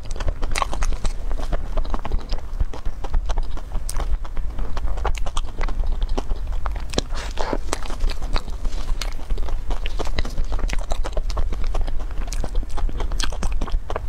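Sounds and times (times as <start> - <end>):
steady low hum: 0.0 - 14.0
wet chewing and lip smacks: 0.0 - 14.0.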